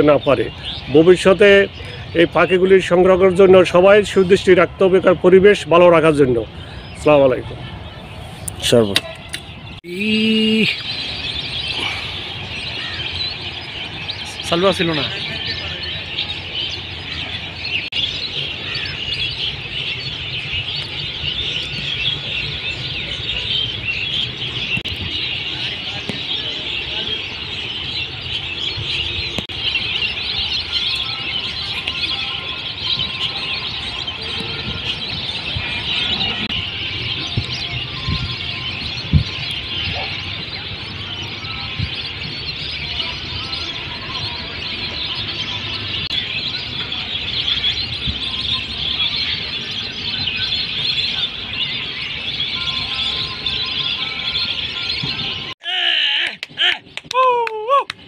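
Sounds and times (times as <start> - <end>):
flock of birds calling: 0.0 - 58.0.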